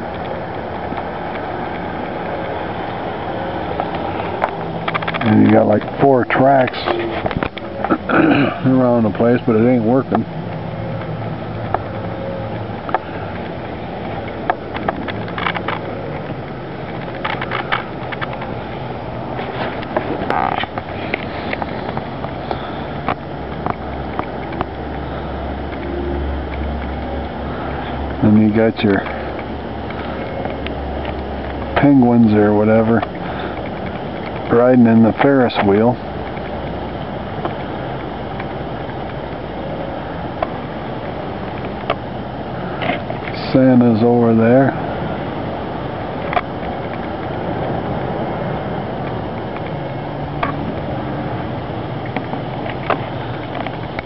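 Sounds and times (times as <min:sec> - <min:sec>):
outdoor rumble and hiss: 0:00.0 - 0:54.0
steady rushing noise: 0:00.0 - 0:54.0.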